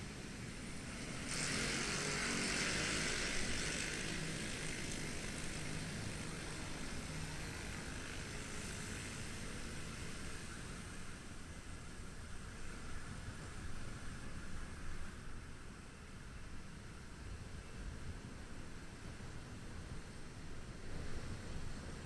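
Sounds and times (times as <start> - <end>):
steady road noise hiss: 0.0 - 22.0.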